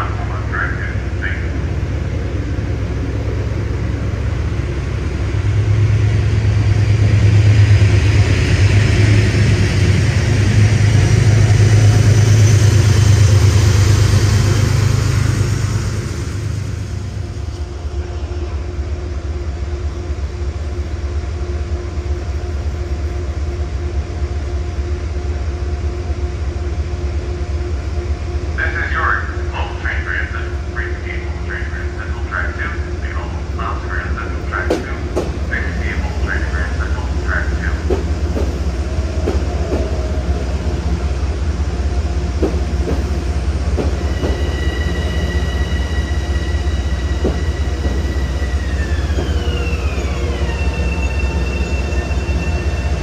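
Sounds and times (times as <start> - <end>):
train rumbling past: 0.0 - 53.0.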